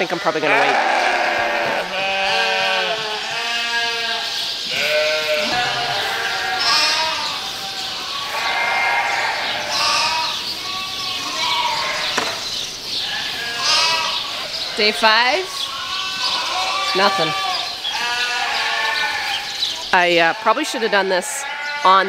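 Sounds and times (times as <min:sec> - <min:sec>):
sheep bleating: 0:00.0 - 0:12.4, 0:13.0 - 0:22.0.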